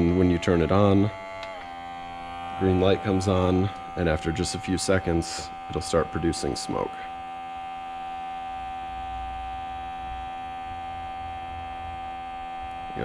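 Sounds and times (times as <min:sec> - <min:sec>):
air pump humming: 0:00.0 - 0:13.0.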